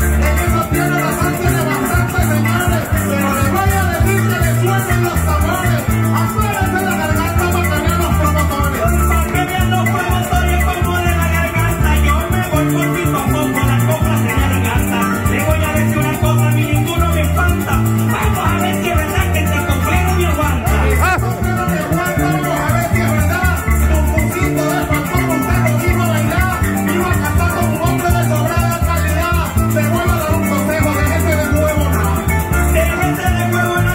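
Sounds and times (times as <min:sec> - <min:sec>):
electric bass: 0:00.0 - 0:33.9
harp playing: 0:00.0 - 0:33.9
man singing into a microphone: 0:00.0 - 0:33.9
maracas shaking: 0:00.0 - 0:33.9.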